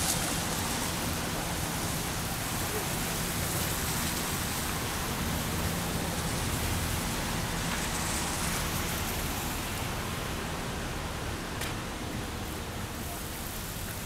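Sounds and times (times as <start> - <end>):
rain hissing: 0.0 - 14.0
wet city traffic: 0.0 - 14.0.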